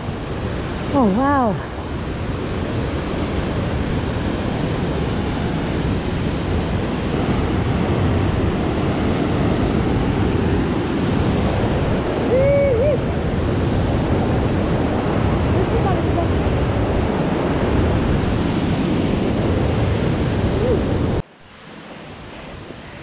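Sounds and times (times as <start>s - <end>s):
whitewater rushing in a creek: 0.0s - 23.0s.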